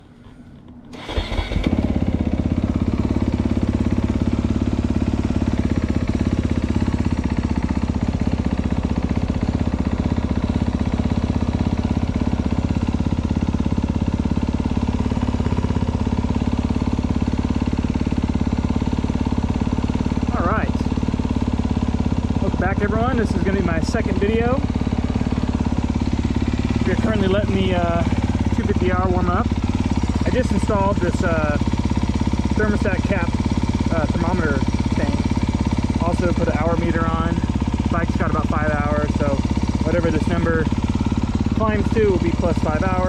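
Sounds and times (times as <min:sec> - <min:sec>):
motorcycle engine starting and idling: 0:00.0 - 0:43.0.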